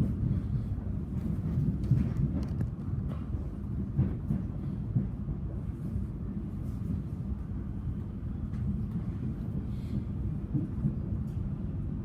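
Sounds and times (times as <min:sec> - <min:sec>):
electric train rumbling on track: 0:00.0 - 0:12.0.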